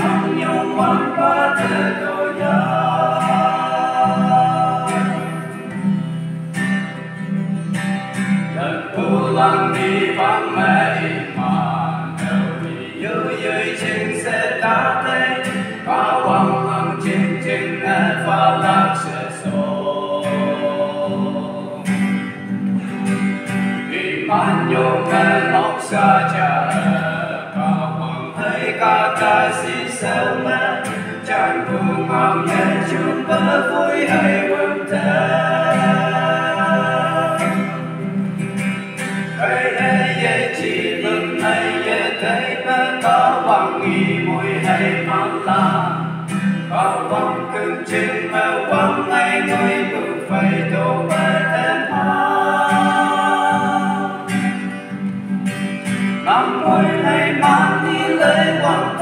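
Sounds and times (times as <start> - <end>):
male vocal group singing: 0.0 - 6.1, 8.5 - 22.3, 23.7 - 38.2, 39.0 - 54.8, 56.1 - 59.0
acoustic guitar: 0.0 - 59.0.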